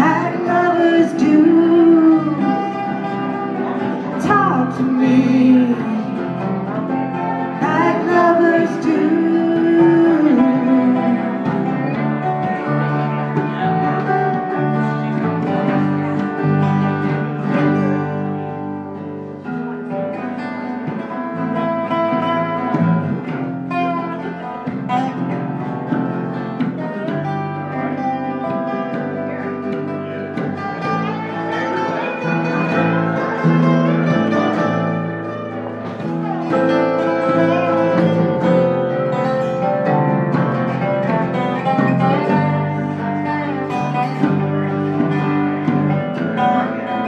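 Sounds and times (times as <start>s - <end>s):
guitar playing chords and melody: 0.0s - 47.0s.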